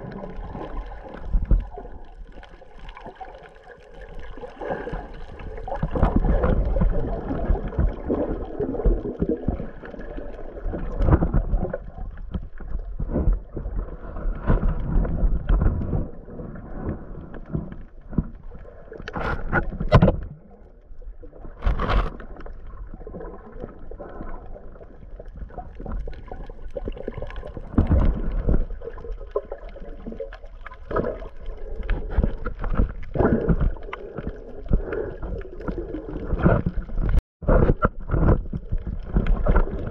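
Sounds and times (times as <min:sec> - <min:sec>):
underwater water sloshing: 0:00.0 - 0:39.9.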